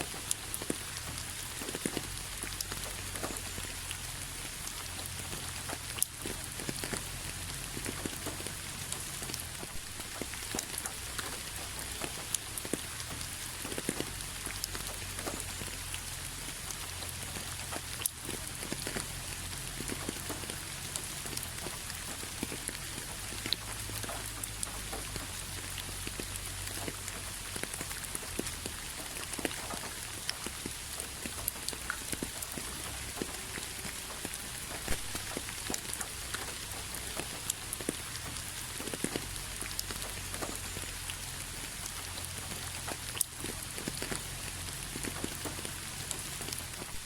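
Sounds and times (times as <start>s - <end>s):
rain falling: 0.0s - 47.0s
raindrops ticking: 0.0s - 47.0s.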